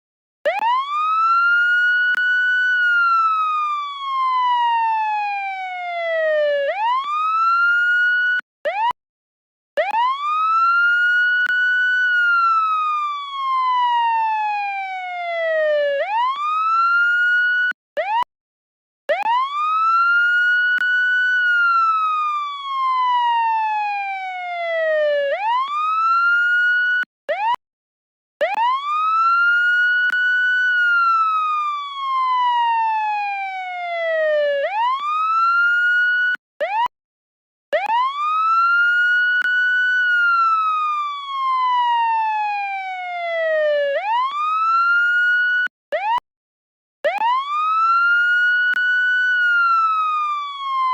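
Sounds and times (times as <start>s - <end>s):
police siren wailing: 0.4s - 9.0s, 9.8s - 18.3s, 19.1s - 27.6s, 28.4s - 36.9s, 37.7s - 46.2s, 47.0s - 50.9s.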